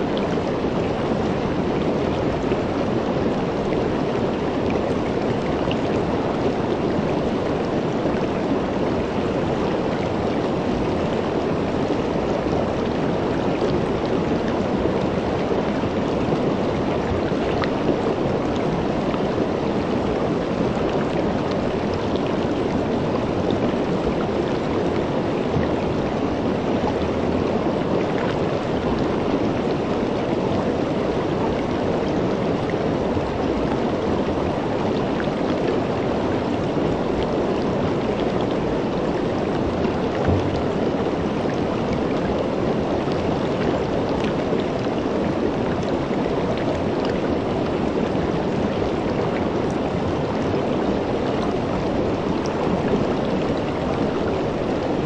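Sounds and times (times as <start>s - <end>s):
creek running over rocks: 0.0s - 55.0s.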